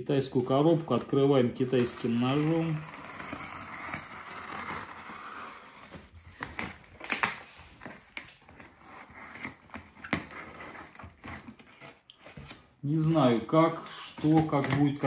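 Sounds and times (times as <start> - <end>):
tape and cardboard crackling: 0.5 - 15.0.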